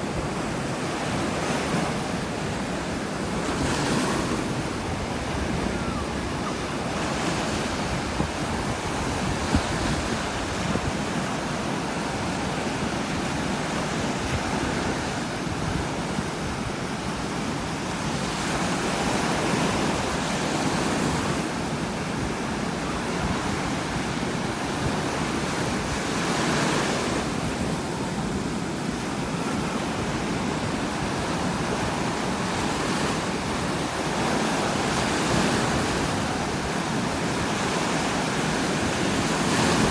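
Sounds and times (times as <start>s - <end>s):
ocean surf crashing: 0.0s - 39.9s
wind on microphone: 0.0s - 39.9s.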